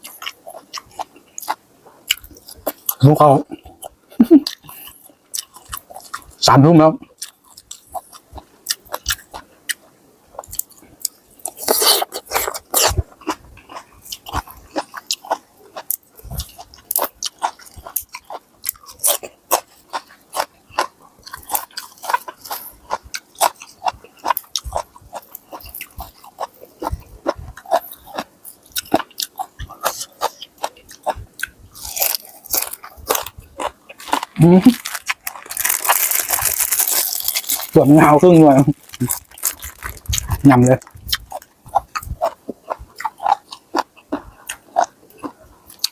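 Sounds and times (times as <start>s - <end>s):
person chewing crisp food: 0.0s - 6.4s, 7.0s - 45.9s.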